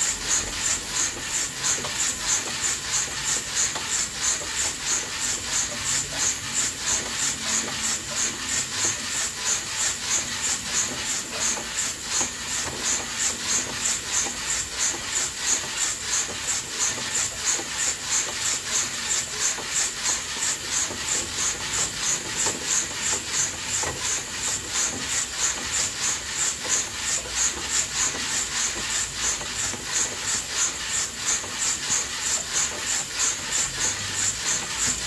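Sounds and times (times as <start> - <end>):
coffee beans swishing in roaster: 0.0 - 35.0.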